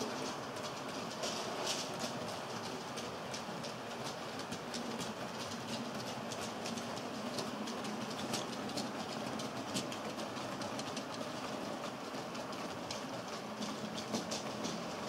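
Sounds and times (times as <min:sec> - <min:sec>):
light clicks of train wheels: 0:00.0 - 0:15.0
model train wheels rumbling on track: 0:00.0 - 0:15.0.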